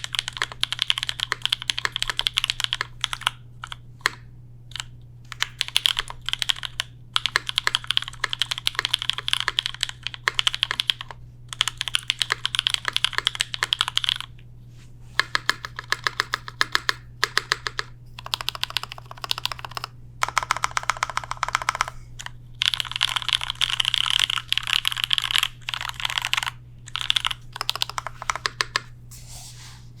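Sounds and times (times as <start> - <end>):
mechanical keyboard typing: 0.0 - 14.3, 15.2 - 28.9
faint low hum: 0.0 - 30.0.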